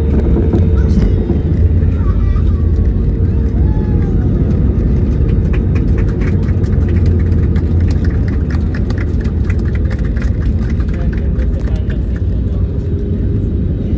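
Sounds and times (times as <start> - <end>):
low rumble of engines and wheels: 0.0 - 13.9.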